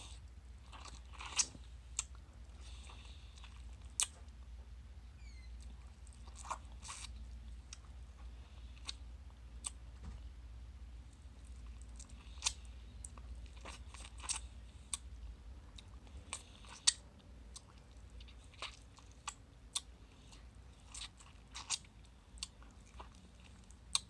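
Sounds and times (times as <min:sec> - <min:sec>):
person sucking and chewing fruit: 0:00.0 - 0:04.2, 0:05.6 - 0:09.0, 0:11.4 - 0:15.1, 0:15.7 - 0:24.0.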